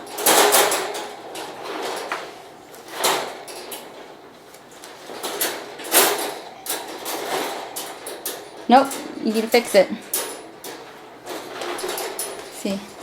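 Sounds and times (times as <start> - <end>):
crate panels rattling and knocking: 0.0 - 13.0.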